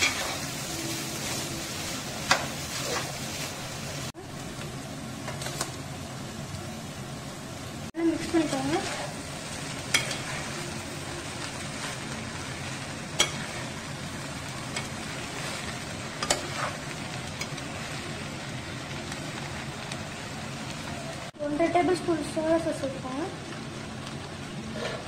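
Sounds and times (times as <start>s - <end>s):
rice sizzling in a pan: 0.0s - 25.0s.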